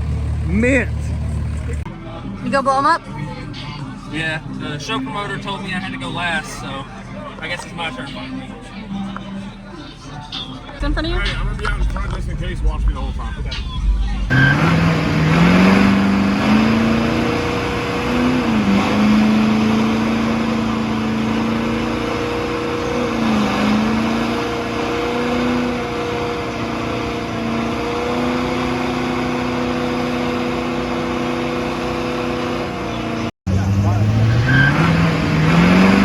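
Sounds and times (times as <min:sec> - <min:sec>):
truck engine revving high: 0:00.0 - 0:07.0, 0:10.1 - 0:36.0.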